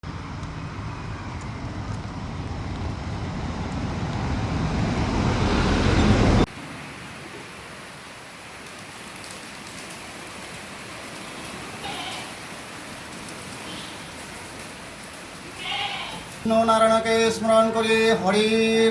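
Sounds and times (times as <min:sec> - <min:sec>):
steady rushing noise: 0:00.0 - 0:18.7.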